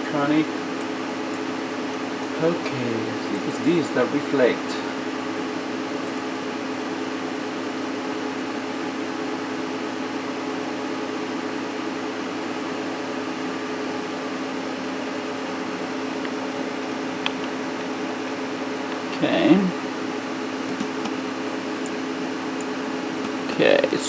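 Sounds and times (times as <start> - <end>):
cooling fans whirring: 0.0 - 24.0.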